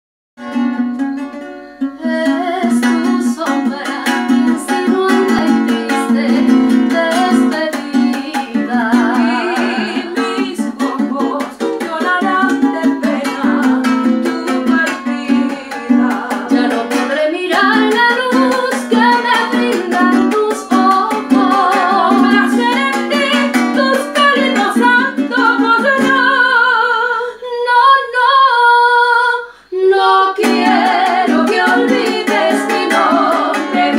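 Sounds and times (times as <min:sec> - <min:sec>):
strummed string instrument: 0:00.4 - 0:26.7, 0:30.4 - 0:33.9
women singing a duet: 0:02.0 - 0:33.9.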